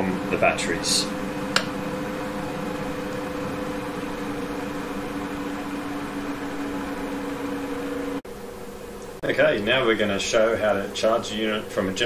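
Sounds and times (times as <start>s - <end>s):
electrical hum: 0.0s - 12.0s
fan-like hiss: 0.0s - 12.0s.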